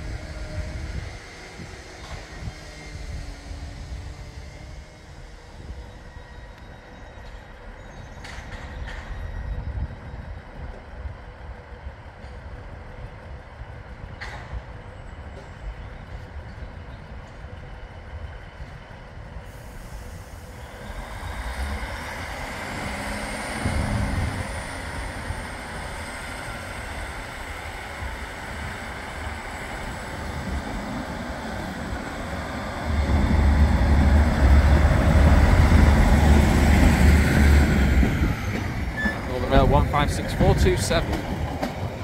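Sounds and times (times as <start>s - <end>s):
diesel train engine rumble: 0.0s - 42.0s.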